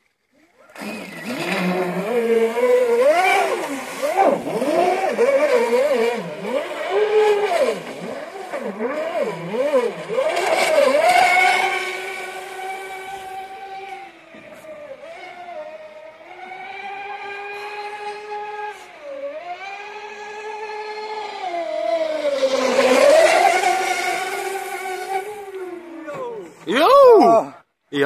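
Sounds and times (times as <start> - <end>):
racing boat motor running: 0.3 - 27.2.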